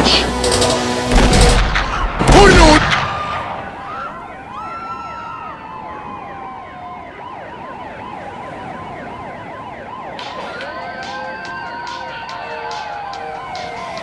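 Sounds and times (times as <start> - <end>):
siren wailing: 0.5 - 14.0
siren yelping: 1.5 - 14.0.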